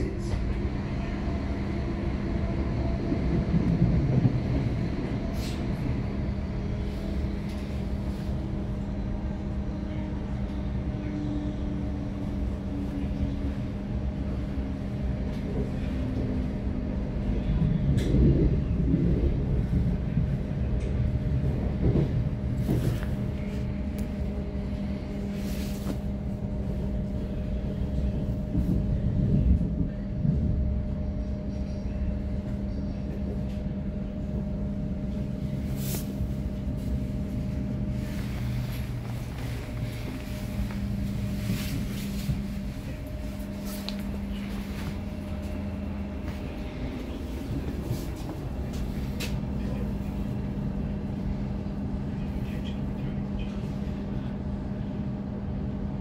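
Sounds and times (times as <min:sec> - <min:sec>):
constant hum: 0:00.0 - 0:56.0
train wheels rumbling on track: 0:00.0 - 0:56.0.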